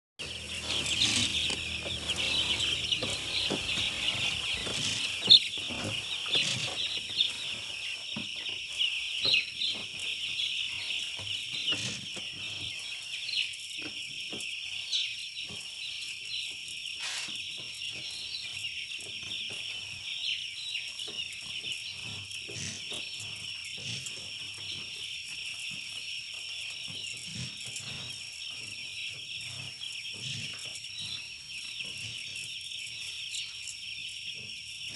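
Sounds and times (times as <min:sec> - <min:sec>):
chicks peeping: 0:00.2 - 0:34.9.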